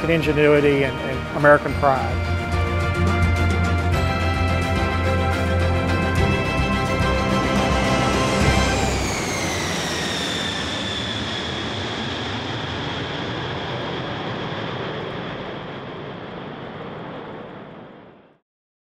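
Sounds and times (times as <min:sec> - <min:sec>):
jet aircraft rush and whine: 0:00.0 - 0:18.4.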